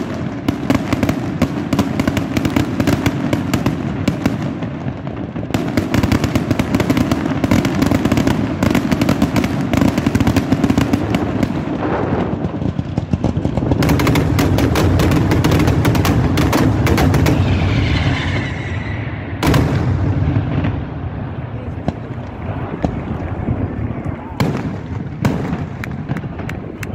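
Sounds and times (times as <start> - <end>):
firecrackers banging: 0.0 - 26.9.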